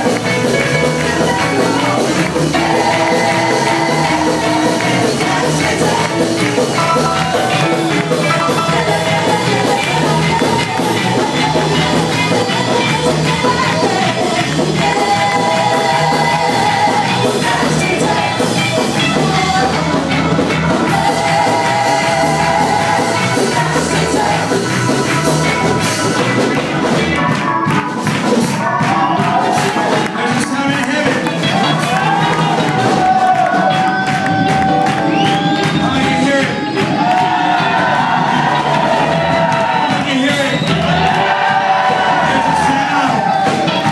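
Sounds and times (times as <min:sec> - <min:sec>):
keyboard: 0:00.0 - 0:43.9
vocalists singing: 0:00.0 - 0:43.9
worship band playing: 0:00.0 - 0:43.9.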